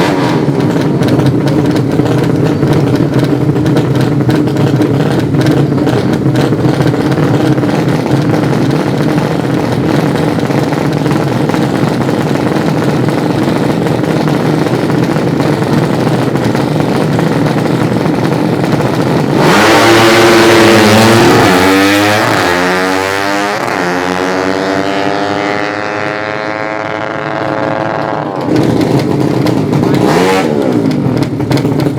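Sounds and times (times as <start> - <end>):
motorcycle accelerating at full throttle: 0.0 - 31.9
motorcycle engines crackling: 0.0 - 31.9.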